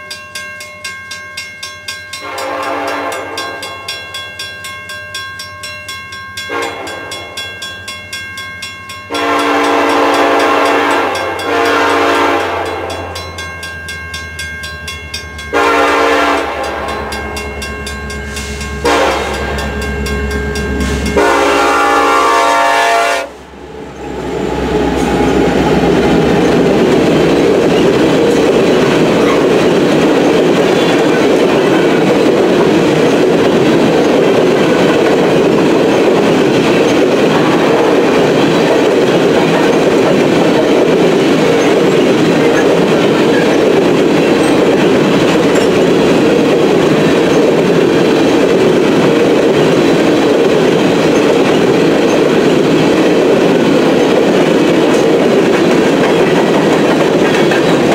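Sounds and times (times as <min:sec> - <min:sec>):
train wheels rumbling on rail: 0:00.8 - 0:57.9.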